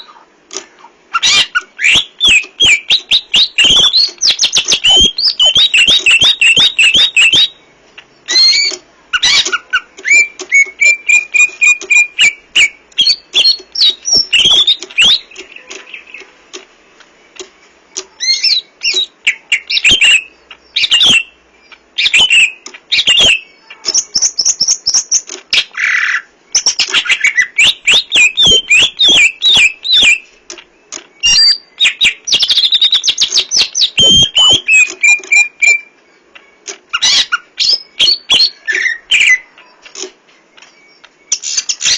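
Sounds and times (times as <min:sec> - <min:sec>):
bird singing whistles and trills: 0:01.1 - 0:16.4, 0:17.2 - 0:41.9.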